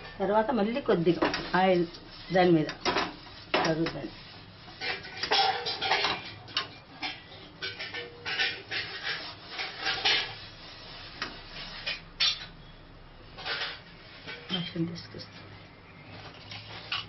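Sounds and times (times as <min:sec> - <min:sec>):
onion scrubbing on griddle: 0:00.0 - 0:12.5, 0:13.3 - 0:15.0, 0:16.1 - 0:17.0.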